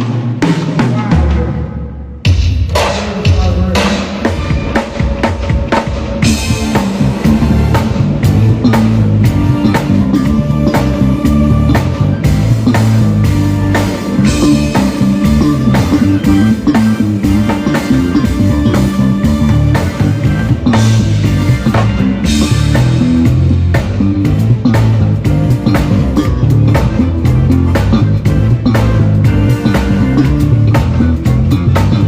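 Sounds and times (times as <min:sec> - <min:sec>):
band playing live: 0:00.0 - 0:32.0
drum kit steady beat: 0:00.0 - 0:32.0
electric bass low notes: 0:06.2 - 0:32.0.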